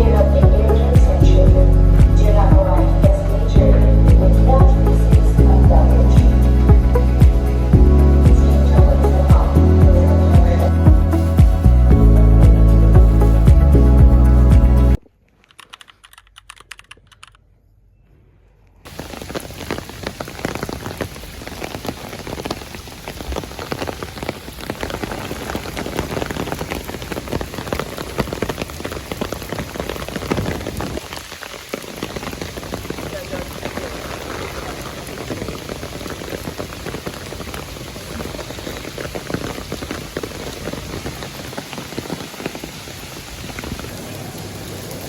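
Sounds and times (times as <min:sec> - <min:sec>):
rain falling steadily: 0:00.0 - 0:15.0, 0:18.9 - 0:45.0.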